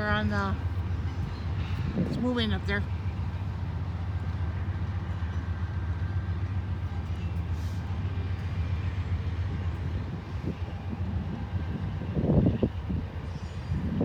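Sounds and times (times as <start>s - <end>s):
distant train rumbling on tracks: 0.0s - 14.0s.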